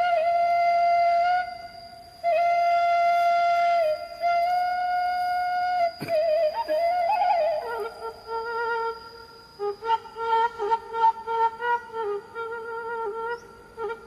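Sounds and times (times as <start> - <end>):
bamboo flute long notes: 0.0 - 14.0.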